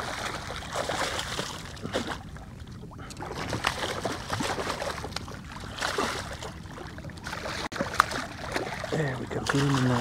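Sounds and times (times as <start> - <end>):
fish thrashing and splashing water: 0.0 - 10.0.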